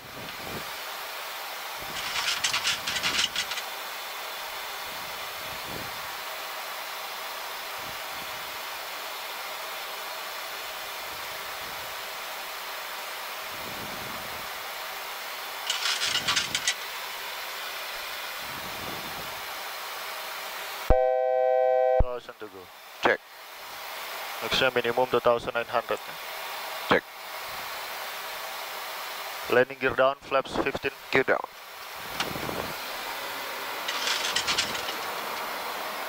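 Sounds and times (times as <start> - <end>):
rushing air noise in cockpit: 0.0 - 36.0.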